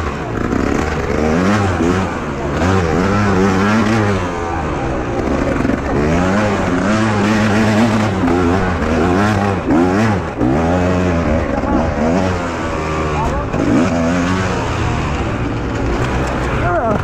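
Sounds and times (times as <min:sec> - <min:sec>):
two-stroke motorcycle engine revving: 0:00.0 - 0:17.0.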